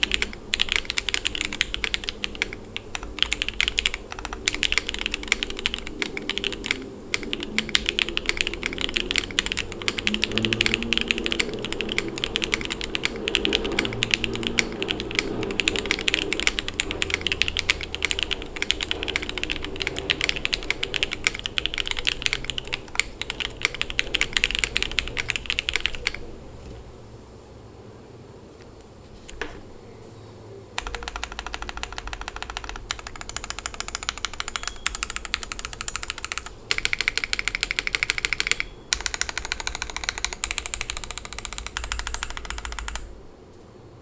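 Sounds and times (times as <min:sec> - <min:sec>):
fast typing on mechanical keyboard: 0:00.0 - 0:26.3, 0:30.8 - 0:43.2.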